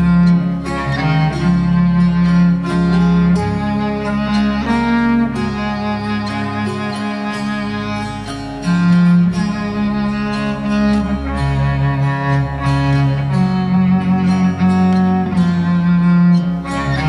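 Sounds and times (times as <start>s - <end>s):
bowed strings playing slow notes: 0.0s - 17.0s.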